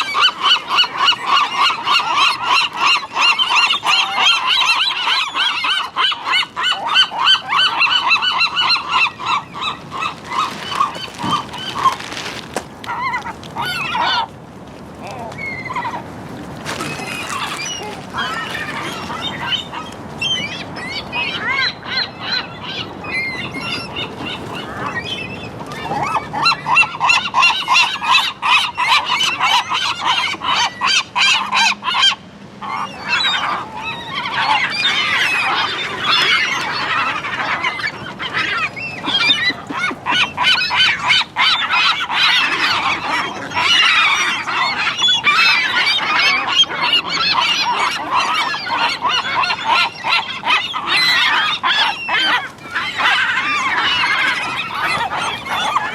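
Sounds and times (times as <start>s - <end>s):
seagulls squawking: 0.0s - 14.3s, 15.0s - 55.9s.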